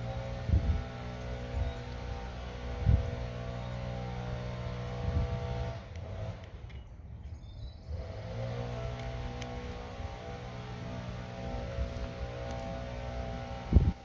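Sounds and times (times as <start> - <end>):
lawn mower engine running: 0.0 - 6.6, 8.0 - 14.0.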